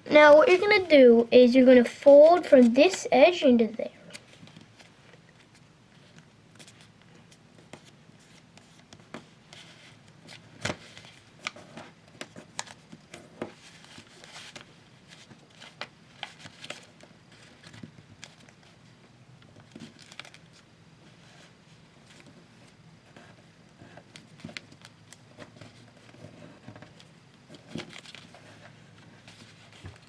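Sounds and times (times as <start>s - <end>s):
paper being folded and creased: 4.1s - 18.8s, 19.6s - 30.0s.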